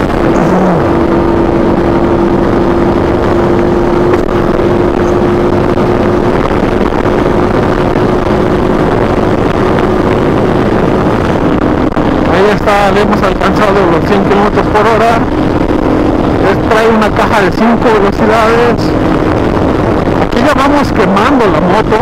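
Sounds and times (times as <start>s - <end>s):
motorcycle engine at high revs: 0.0s - 22.0s
wind and road rush: 0.0s - 22.0s.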